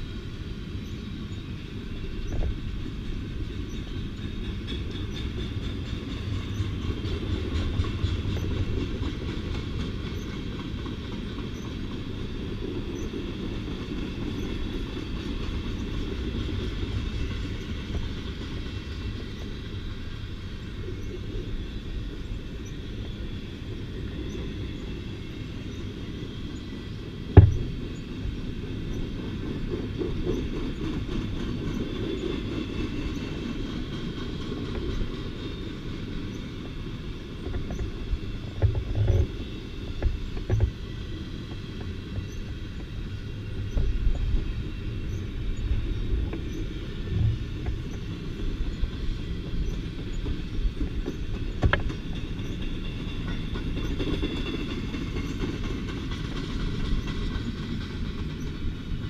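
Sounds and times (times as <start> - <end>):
train wheels rumbling on rail: 0.0 - 59.0
train cars clanking and thumping: 0.8 - 59.0.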